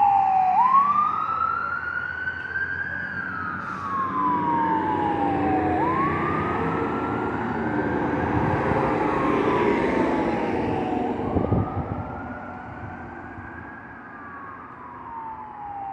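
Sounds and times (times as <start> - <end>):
engine and road noise: 0.0 - 15.9
fire engine siren wailing: 0.0 - 15.9.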